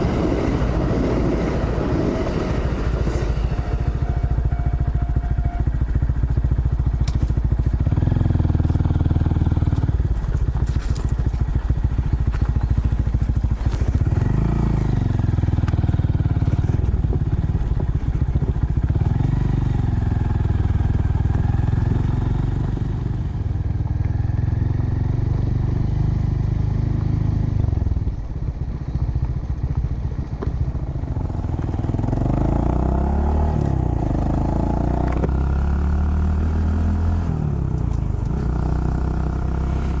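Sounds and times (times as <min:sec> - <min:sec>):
minibike engine revving: 0:00.0 - 0:40.0.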